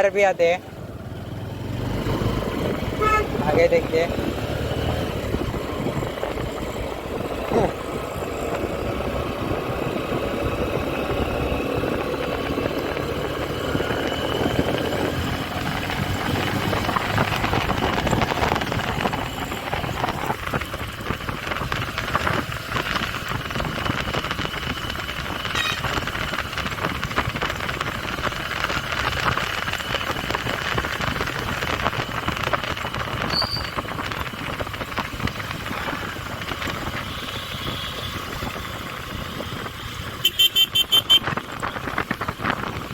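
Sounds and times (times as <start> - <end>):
motorcycle engine: 0.0 - 42.9
wind and road noise: 0.0 - 42.9.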